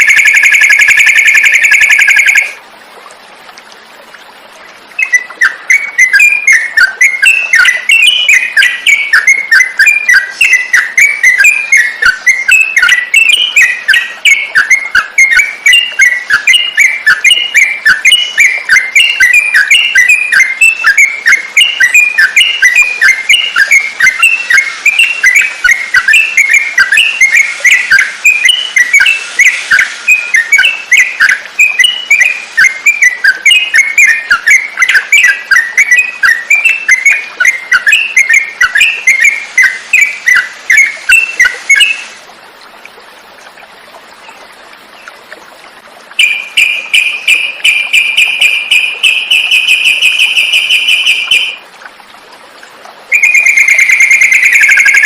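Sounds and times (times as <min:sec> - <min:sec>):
bulbul chirping and whistling: 0:00.0 - 0:02.6, 0:05.0 - 0:42.2, 0:46.2 - 0:51.6, 0:53.1 - 0:55.0.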